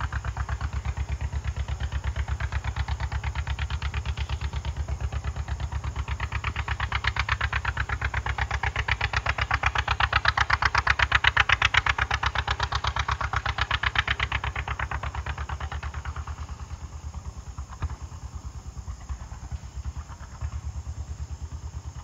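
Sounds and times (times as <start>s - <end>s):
tractor engine exhaust beat: 0.0s - 22.0s.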